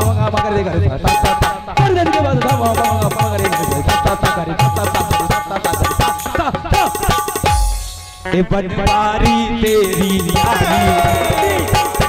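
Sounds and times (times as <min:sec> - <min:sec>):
hand drum fast folk rhythm: 0:00.0 - 0:08.2, 0:08.9 - 0:12.0.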